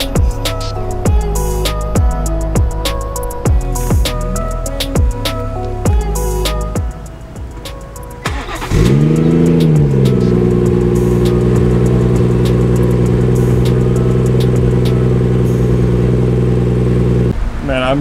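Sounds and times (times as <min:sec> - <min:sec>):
car engine starting and idling: 0:00.0 - 0:17.6.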